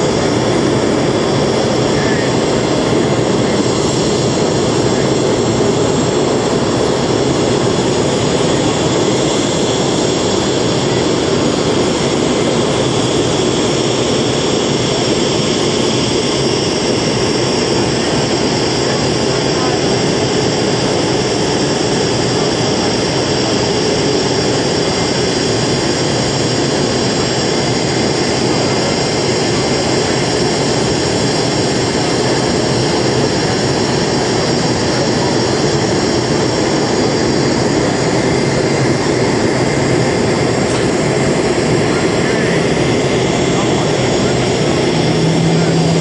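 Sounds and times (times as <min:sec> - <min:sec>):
jet turbine engine whine: 0:00.0 - 0:46.0.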